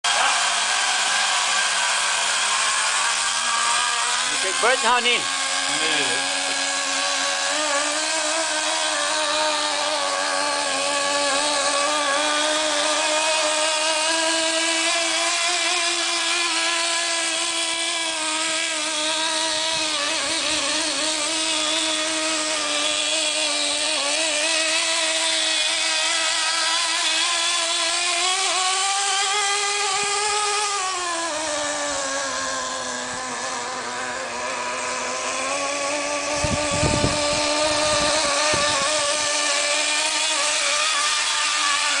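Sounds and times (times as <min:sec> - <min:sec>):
small two-stroke engine running: 0:00.0 - 0:42.0.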